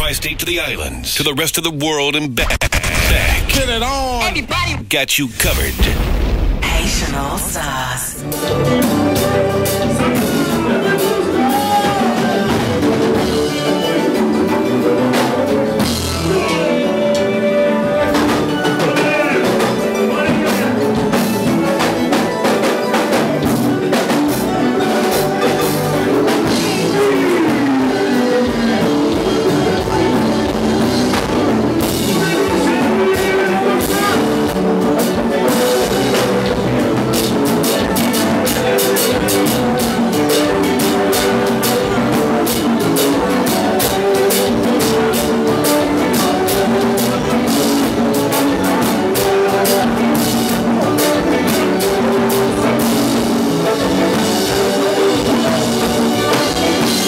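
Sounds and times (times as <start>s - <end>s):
dance music with drums and singing: 2.4s - 57.0s.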